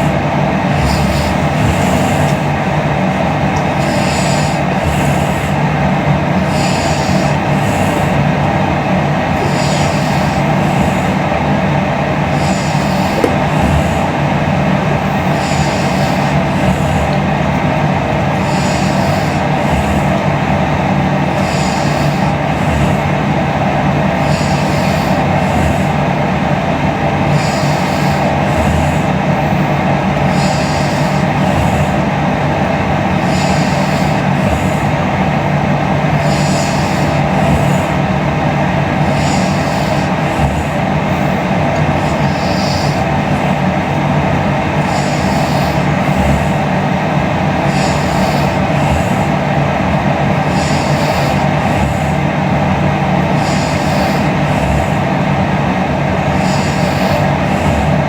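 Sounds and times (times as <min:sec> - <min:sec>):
loud steady rumbling: 0:00.0 - 0:58.0
woman breathing and snoring: 0:00.0 - 0:58.0.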